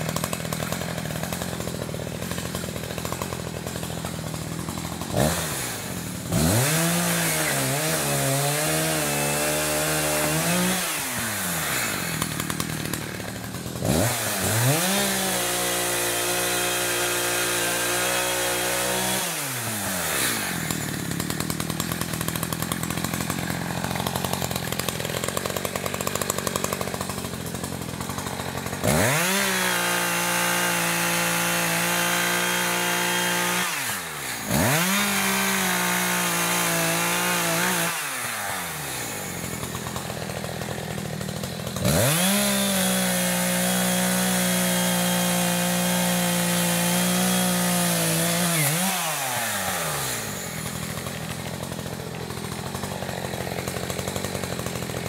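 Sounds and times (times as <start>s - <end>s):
chainsaw cutting logs: 0.0s - 55.0s
chainsaw revving: 0.0s - 55.0s.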